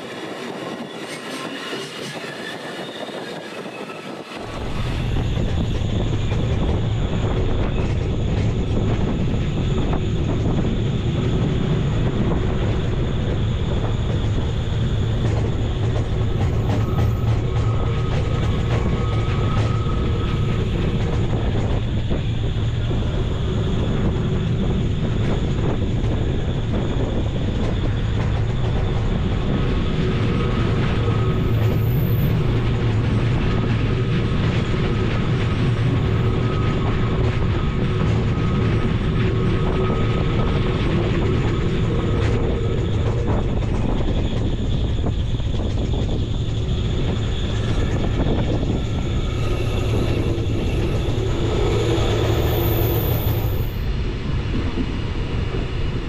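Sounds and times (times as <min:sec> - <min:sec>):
train rumbling along track: 0:00.0 - 0:56.0.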